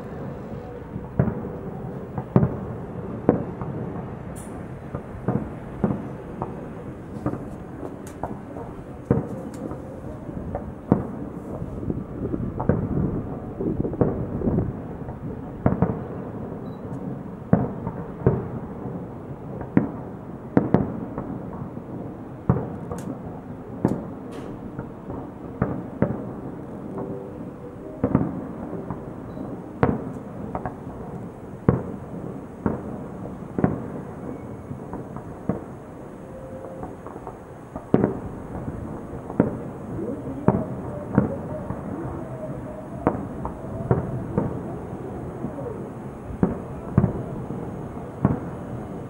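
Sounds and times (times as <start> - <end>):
fireworks bangs: 0.0 - 49.0
low fireworks display noise: 0.0 - 49.0.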